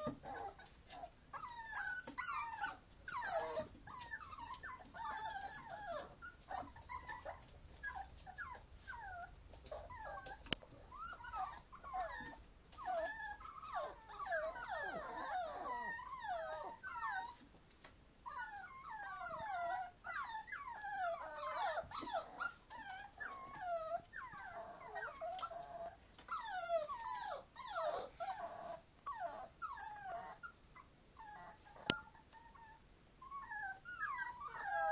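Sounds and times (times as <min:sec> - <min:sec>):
puppies whining and whimpering: 0:00.0 - 0:34.9.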